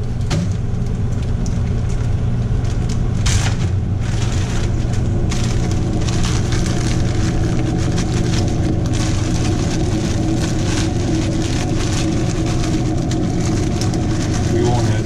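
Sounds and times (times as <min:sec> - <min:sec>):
steady low hum: 0:00.0 - 0:15.0
plastic bag crinkling: 0:01.2 - 0:15.0.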